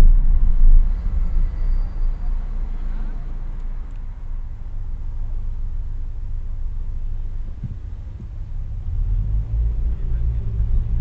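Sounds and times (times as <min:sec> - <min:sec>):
car idling rumble: 0:00.0 - 0:11.0.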